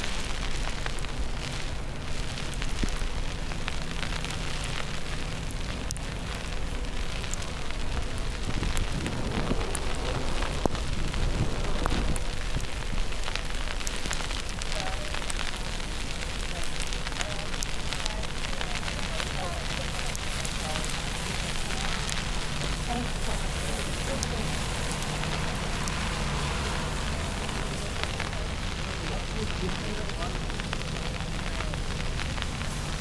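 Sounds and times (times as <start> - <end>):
low wind rumble: 0.0 - 33.0
small ticks: 0.1 - 33.0.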